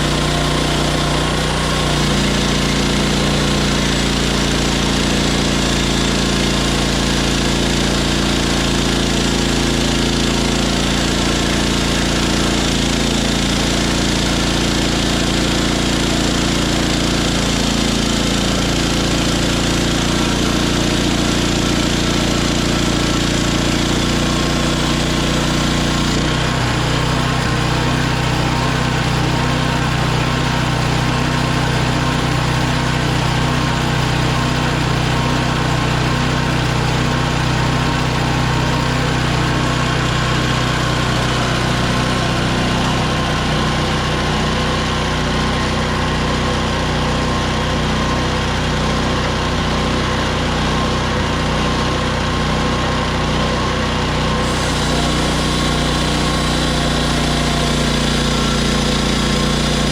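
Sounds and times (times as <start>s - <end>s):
bandsaw mill engine running: 0.0s - 59.9s.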